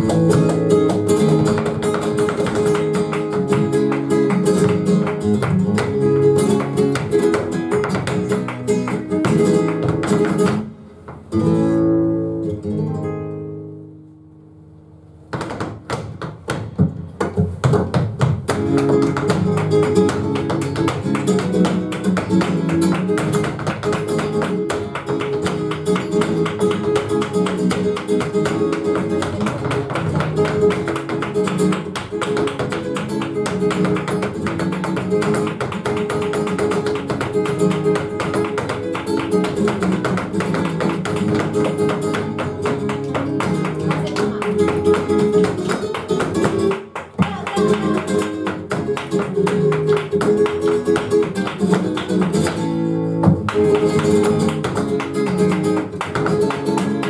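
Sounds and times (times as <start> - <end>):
rapid percussive tapping: 0.0 - 11.3, 15.3 - 57.0
flamenco acoustic guitar: 0.0 - 57.0.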